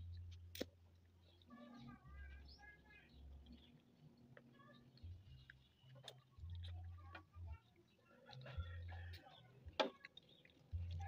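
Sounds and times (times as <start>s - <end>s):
faint small birds chirping: 0.0s - 11.0s.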